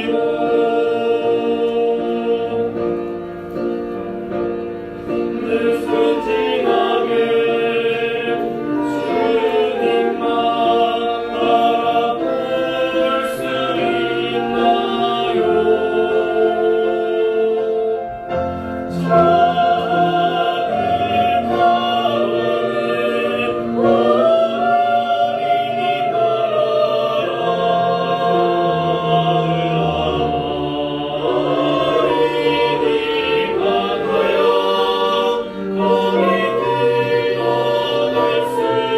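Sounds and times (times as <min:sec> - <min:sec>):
bowed strings: 0:00.0 - 0:38.9
choir singing a hymn: 0:00.0 - 0:38.9.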